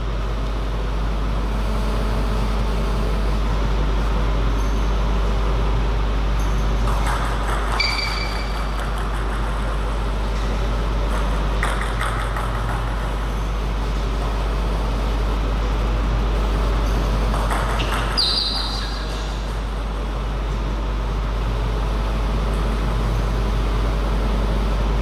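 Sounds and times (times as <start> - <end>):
low hum: 0.0 - 18.2, 19.0 - 25.0.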